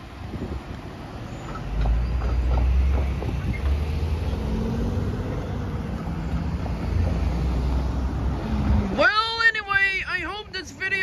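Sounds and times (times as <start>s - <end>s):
cars driving past: 0.0s - 9.5s.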